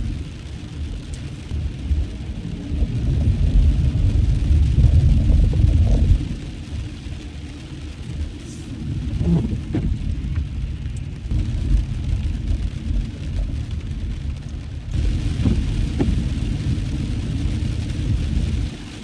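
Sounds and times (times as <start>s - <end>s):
hiss of rain and spray: 0.0s - 19.0s
low rumble of road and engine: 0.0s - 19.0s.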